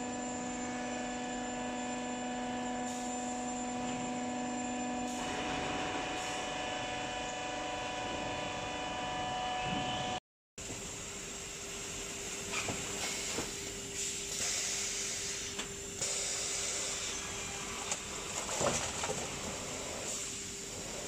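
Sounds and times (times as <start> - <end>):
machine hum with hiss: 0.0 - 21.0.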